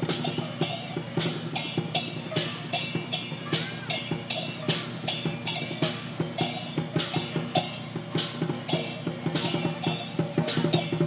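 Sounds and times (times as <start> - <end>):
cymbals clashing: 0.0 - 11.0
drums beating: 0.0 - 11.0.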